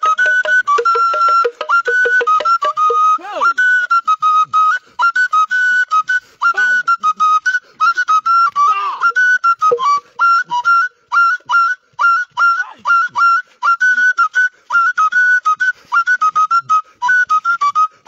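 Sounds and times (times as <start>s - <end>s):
small flute whistling short notes: 0.0s - 18.0s.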